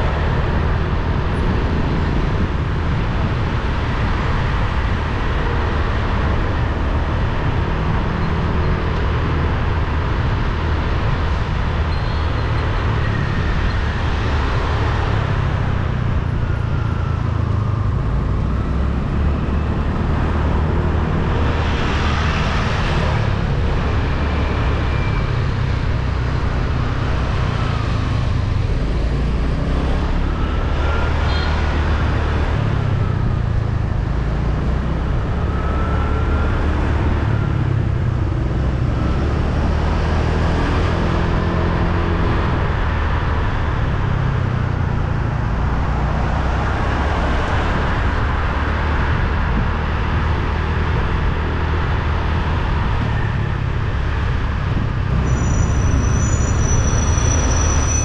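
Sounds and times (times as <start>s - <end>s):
low traffic rumble: 0.0s - 58.0s
road noise: 0.0s - 58.0s.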